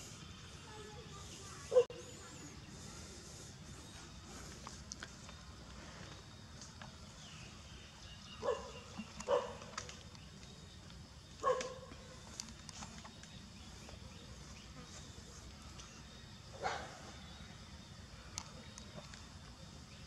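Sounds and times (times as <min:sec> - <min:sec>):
faint outdoor background noise: 0:00.0 - 0:20.0.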